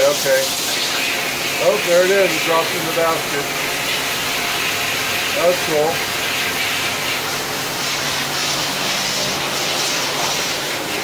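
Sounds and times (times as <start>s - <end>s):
lathe running with whir and hiss: 0.0s - 11.0s.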